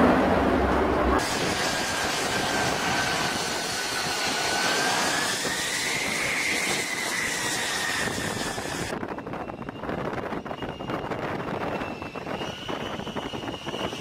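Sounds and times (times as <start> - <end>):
gusty wind-like rush: 0.0 - 14.0
jet engine whine: 0.0 - 14.0.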